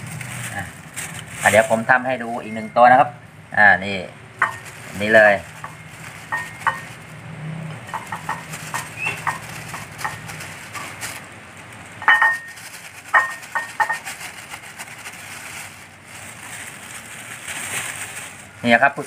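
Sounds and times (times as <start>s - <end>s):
plastic crinkling: 0.0s - 2.3s, 4.4s - 7.2s, 7.9s - 19.0s.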